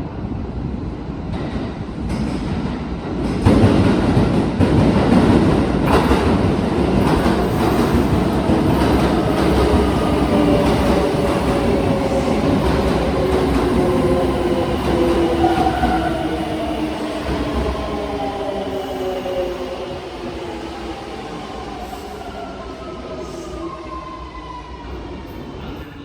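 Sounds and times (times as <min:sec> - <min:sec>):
train wheels rumbling on rail: 0:00.0 - 0:23.8
multi-tone train whine: 0:00.0 - 0:26.0.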